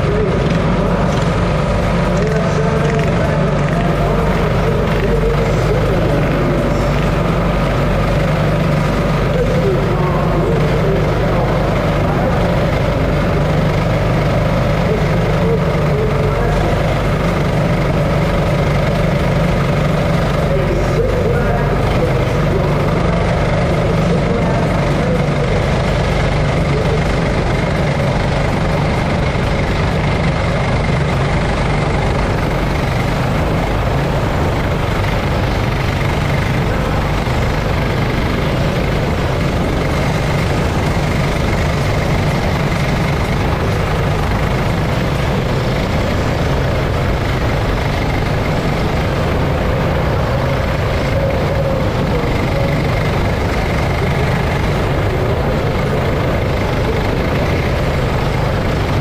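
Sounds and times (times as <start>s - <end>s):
go-kart engine racing: 0.0s - 59.0s.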